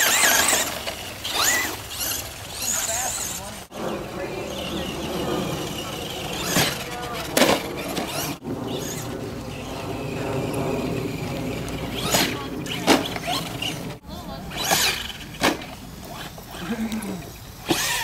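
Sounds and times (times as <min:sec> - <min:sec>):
radio-controlled car running: 0:00.0 - 0:18.0.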